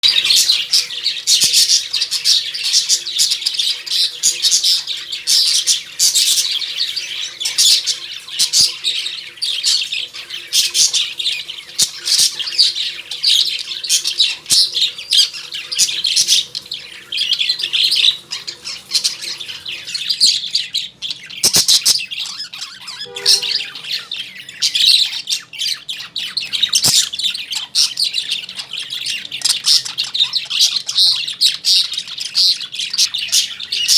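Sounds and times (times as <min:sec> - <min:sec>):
lovebirds chirping and squawking: 0:00.0 - 0:33.9.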